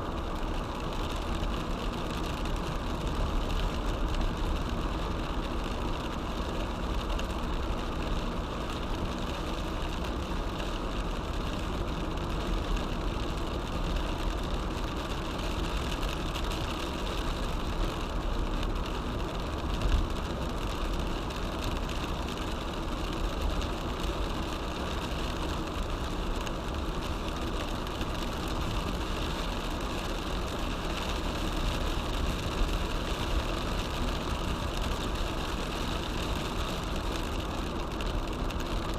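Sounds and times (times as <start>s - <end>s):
heavy rain: 0.0s - 38.9s
wet tyres on road: 0.0s - 38.9s.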